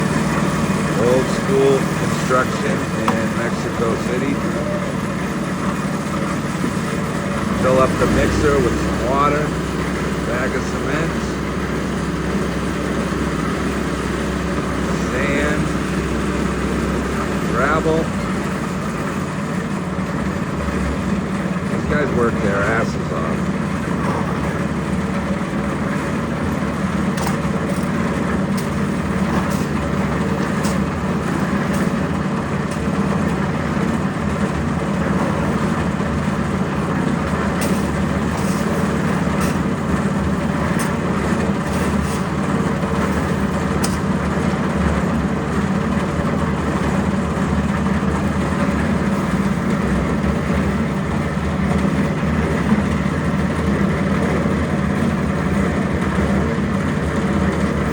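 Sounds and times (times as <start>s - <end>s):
concrete mixer engine running: 0.0s - 57.9s.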